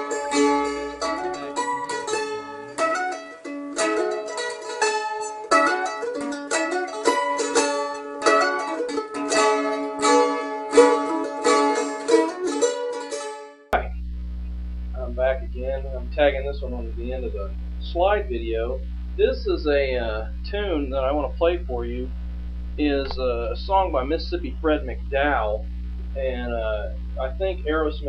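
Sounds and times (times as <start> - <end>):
mandolin strumming: 0.0 - 13.9, 15.0 - 28.0.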